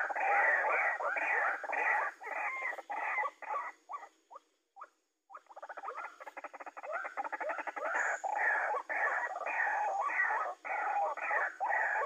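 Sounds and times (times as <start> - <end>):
waterhen croaking and chattering: 0.0 - 4.1, 5.3 - 12.0.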